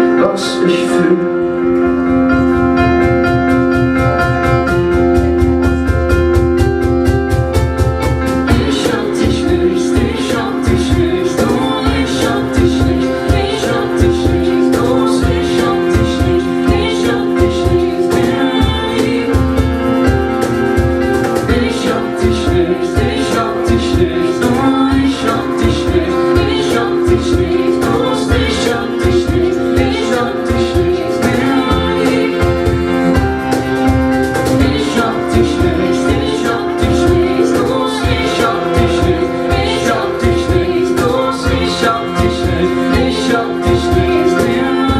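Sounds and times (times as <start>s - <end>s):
live band playing instrumental: 0.0s - 44.9s.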